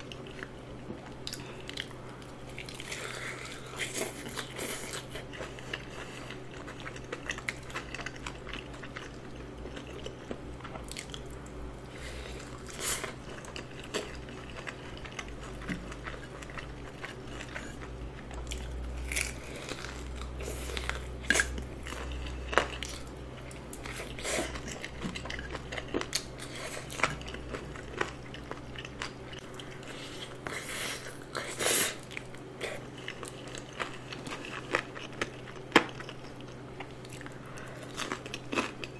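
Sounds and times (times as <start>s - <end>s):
soft chewing: 0.0s - 38.9s
crunching fried chicken: 1.2s - 38.9s.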